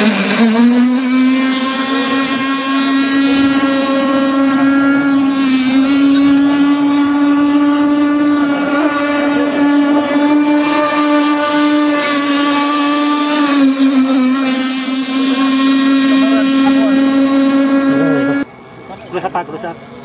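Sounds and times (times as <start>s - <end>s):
model boat engine whining: 0.0s - 20.0s.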